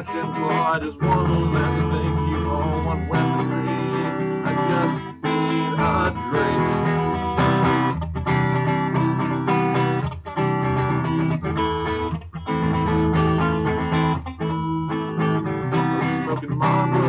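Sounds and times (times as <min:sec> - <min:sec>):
guitar strumming chords: 0:00.0 - 0:17.0.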